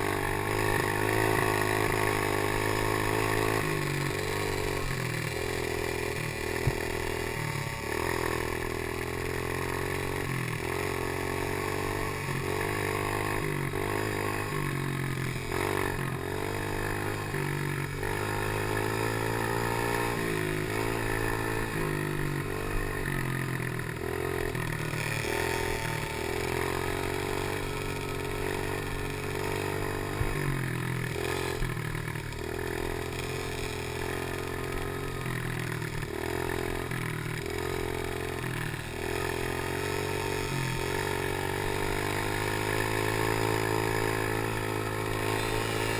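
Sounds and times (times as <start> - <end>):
pit bike engine revving: 0.0 - 45.9.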